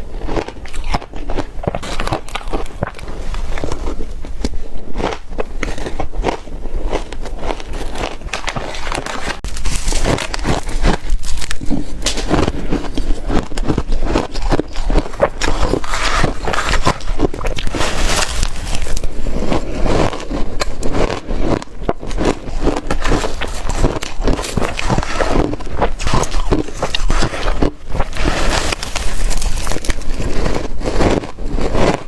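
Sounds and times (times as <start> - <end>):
crunching and chewing ice: 0.0 - 32.0.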